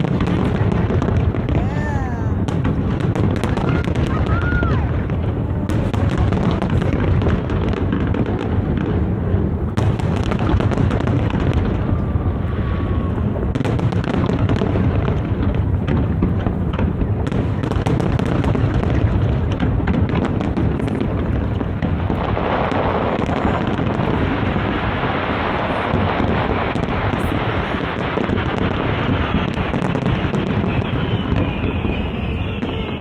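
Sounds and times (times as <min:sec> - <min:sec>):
fireworks cracks and crackles: 0:00.0 - 0:33.0.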